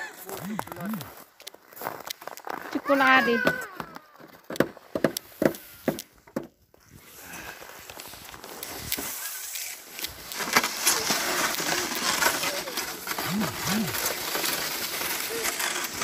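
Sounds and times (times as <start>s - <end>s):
footsteps on snow: 0.1s - 3.8s, 6.8s - 16.0s.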